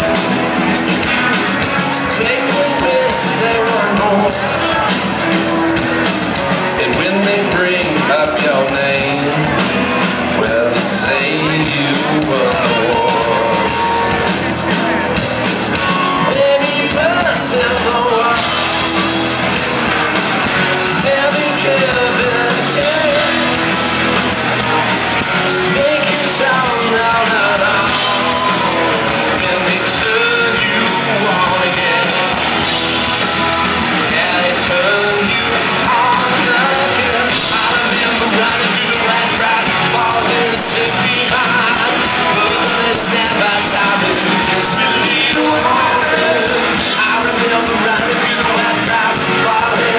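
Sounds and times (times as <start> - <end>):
lead singer singing: 0.0 - 49.9
live rock band playing: 0.0 - 49.9.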